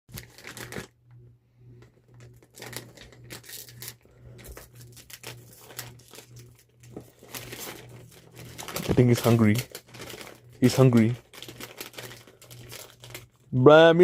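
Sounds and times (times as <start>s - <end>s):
chip bag crinkling: 0.1s - 1.0s, 2.1s - 13.6s.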